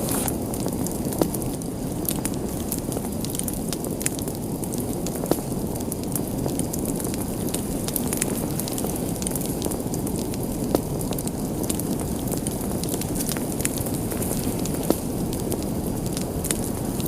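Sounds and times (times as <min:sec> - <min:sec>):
fire crackling: 0:00.0 - 0:17.0
fire flames rushing: 0:00.0 - 0:17.0.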